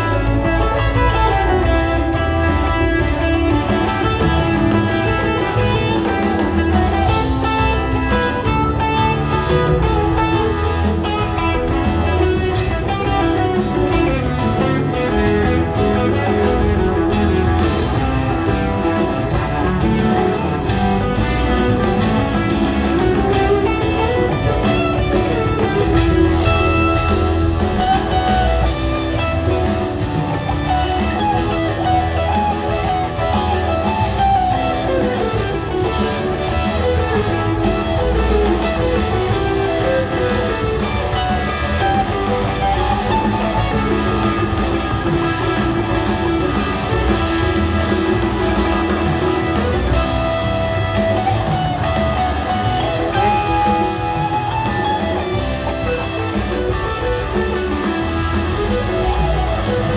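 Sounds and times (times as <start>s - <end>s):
bass guitar: 0.0s - 59.9s
drums: 0.0s - 59.9s
electric guitar melody: 0.0s - 59.9s.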